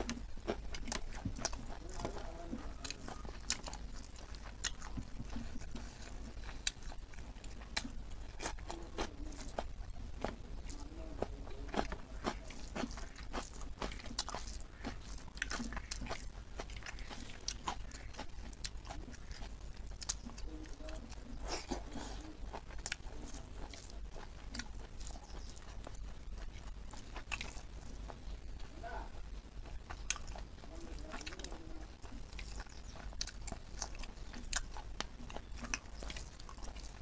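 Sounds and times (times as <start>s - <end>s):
chewing with wet mouth smacks: 0.0s - 37.0s.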